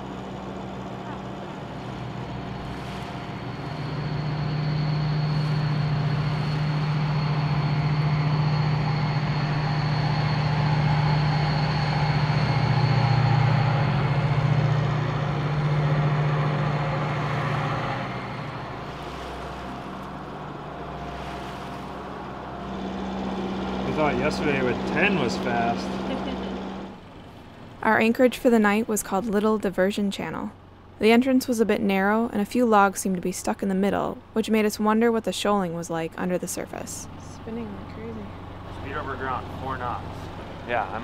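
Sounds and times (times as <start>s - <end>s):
boat engine hum: 0.0s - 41.0s
towboat diesel drone: 0.0s - 41.0s
water noise: 0.0s - 41.0s.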